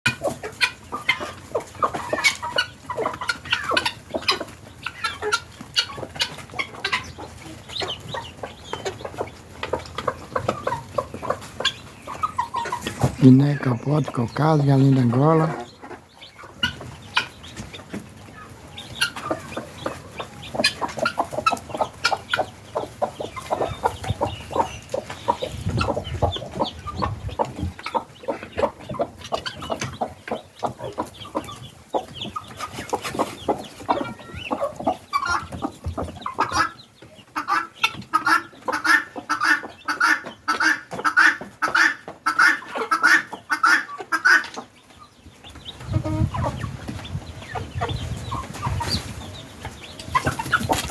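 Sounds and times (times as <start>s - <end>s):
guineafowl calling: 0.1s - 50.9s.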